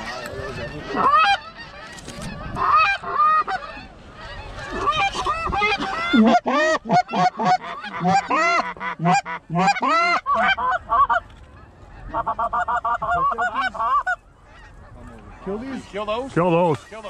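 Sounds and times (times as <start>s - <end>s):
goose honking: 0.0s - 17.0s.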